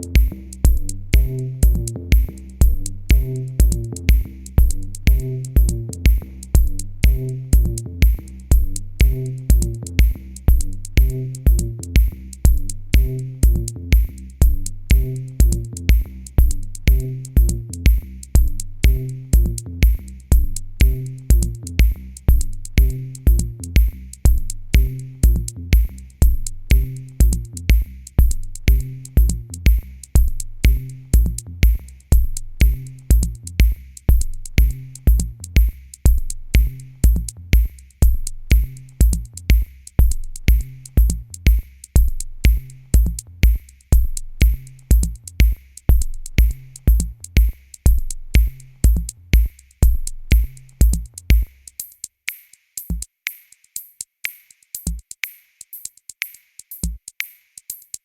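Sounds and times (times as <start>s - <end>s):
electronic music with drum-machine beat: 0.0s - 58.0s.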